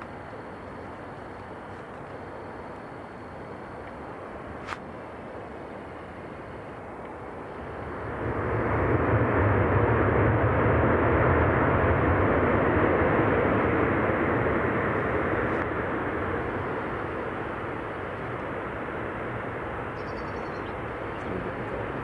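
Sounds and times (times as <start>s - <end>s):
jet aircraft passing by: 0.0s - 22.0s.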